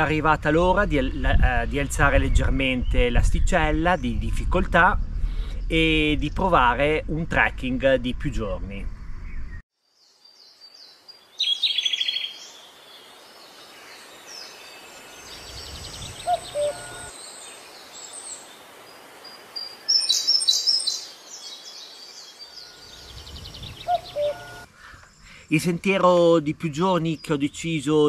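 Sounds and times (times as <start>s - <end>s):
faint outdoor background: 0.0s - 28.0s
songbirds singing and chirping: 0.0s - 28.0s.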